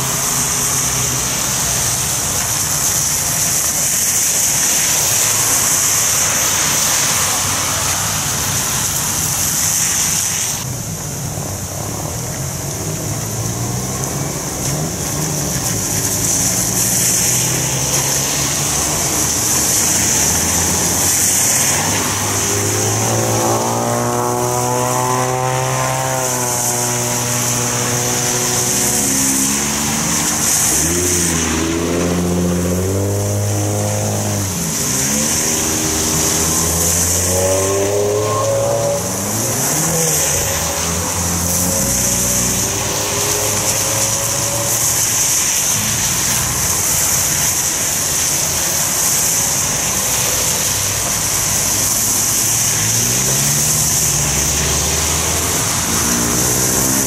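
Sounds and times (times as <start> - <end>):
car engines revving: 0.0 - 57.0
rain: 0.0 - 57.0
tyres hissing on wet road: 0.0 - 57.0.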